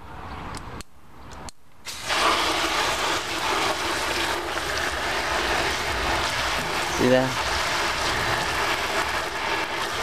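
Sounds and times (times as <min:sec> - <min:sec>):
water spraying onto plastic: 0:01.9 - 0:10.0.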